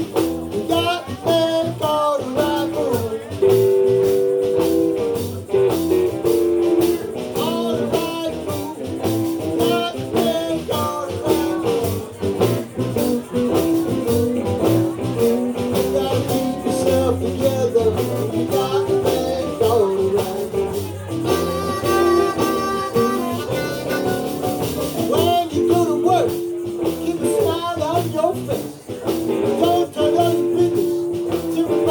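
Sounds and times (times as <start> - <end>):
blues band playing: 0.0 - 31.9.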